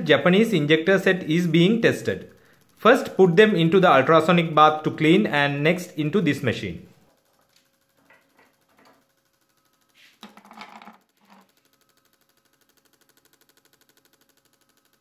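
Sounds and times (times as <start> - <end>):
fast mechanical ticking: 0.0 - 10.2, 11.0 - 15.0.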